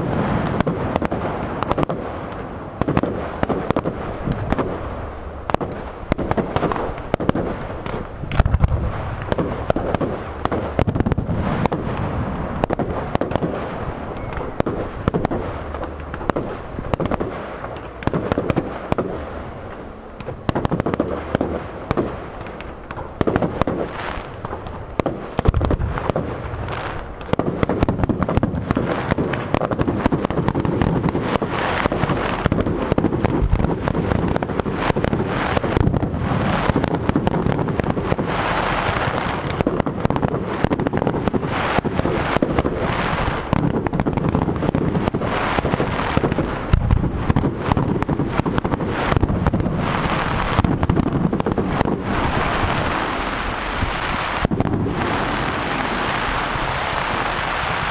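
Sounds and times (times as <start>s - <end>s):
fireworks bangs and crackle: 0.0s - 57.9s.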